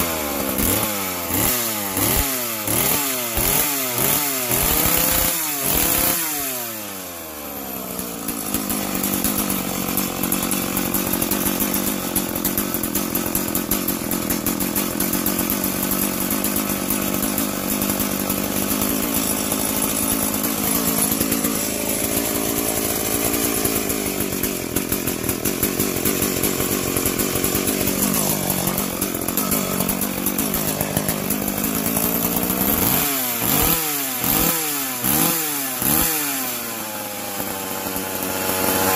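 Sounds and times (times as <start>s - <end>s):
chainsaw running hard: 0.0s - 38.9s.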